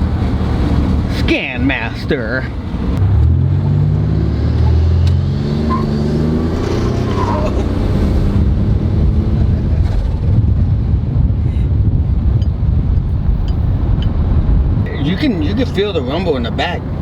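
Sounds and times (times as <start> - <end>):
car engine and exhaust drone: 0.0 - 17.0.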